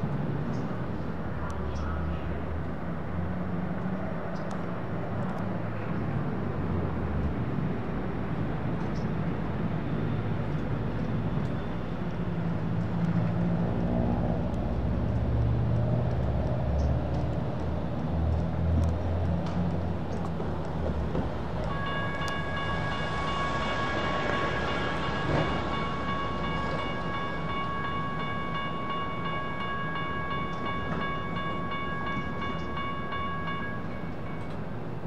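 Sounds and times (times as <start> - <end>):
vehicle rumble: 0.0 - 35.0.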